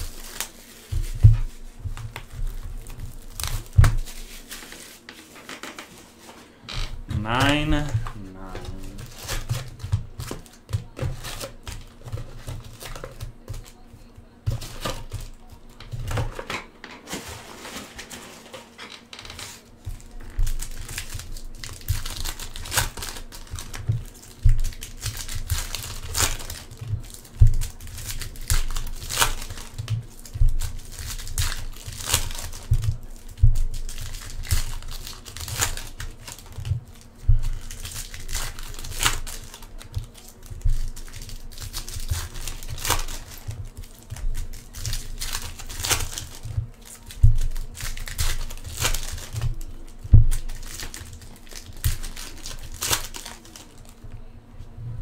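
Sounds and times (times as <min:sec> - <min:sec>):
foil card packs crinkling: 0:00.0 - 0:54.0.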